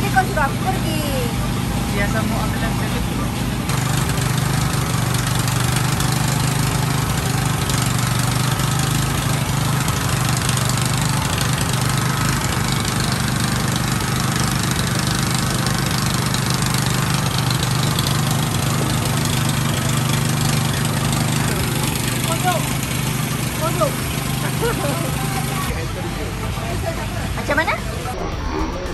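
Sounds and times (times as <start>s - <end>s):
engine droning: 0.0s - 28.9s.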